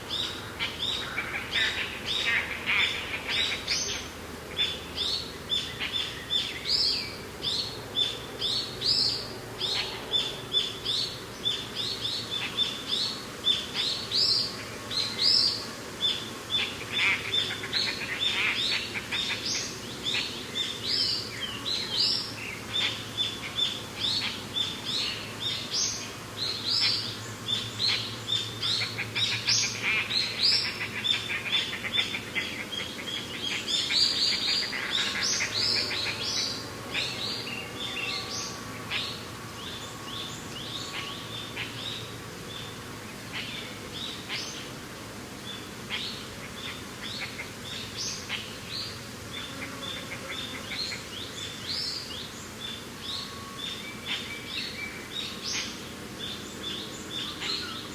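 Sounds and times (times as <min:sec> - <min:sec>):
birds chirping in chorus: 0:00.0 - 0:57.9
steady background noise: 0:00.0 - 0:57.9.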